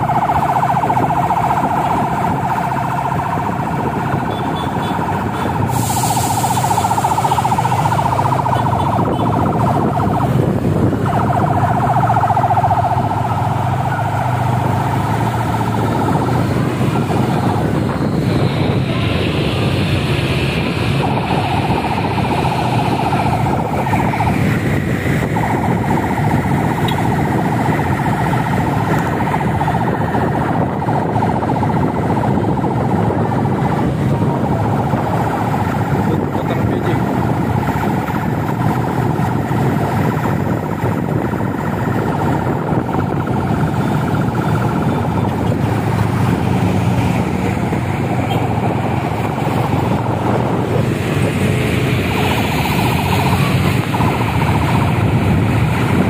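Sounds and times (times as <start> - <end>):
car and motorcycle engines: 0.0 - 56.0
siren sounding: 0.0 - 56.0.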